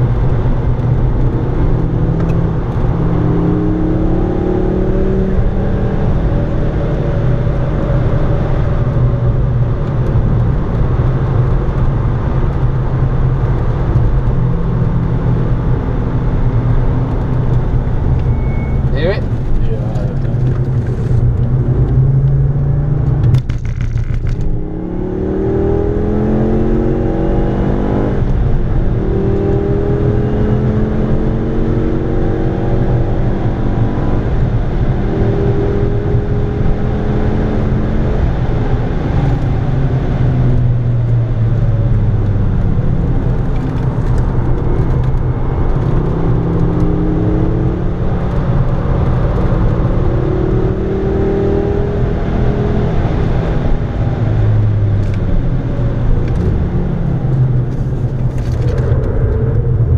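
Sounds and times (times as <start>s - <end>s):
car engine accelerating: 0.0s - 59.9s
tyre and wind noise: 0.0s - 59.9s.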